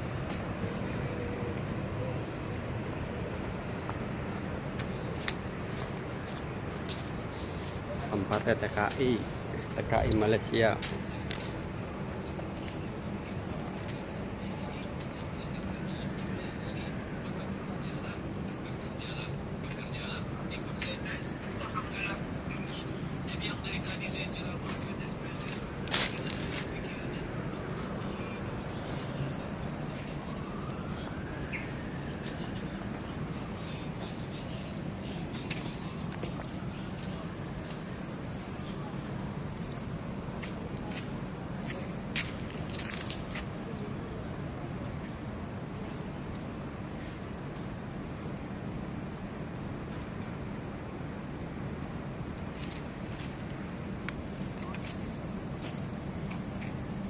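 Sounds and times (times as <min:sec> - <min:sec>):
crickets calling: 0:00.0 - 0:57.0.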